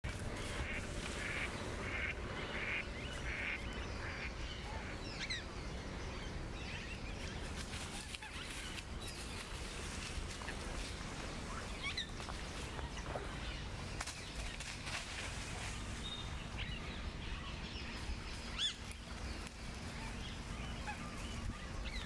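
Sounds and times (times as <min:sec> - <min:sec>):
birds calling: 0:00.0 - 0:22.0
steady low rumble: 0:00.0 - 0:22.0.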